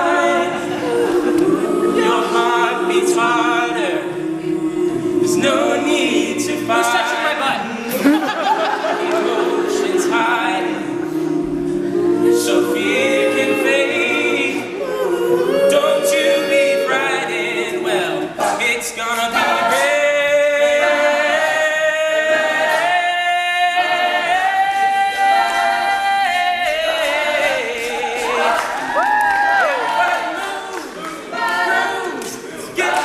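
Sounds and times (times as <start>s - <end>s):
lead voice singing: 0.0s - 33.0s
male a cappella group singing: 0.0s - 33.0s.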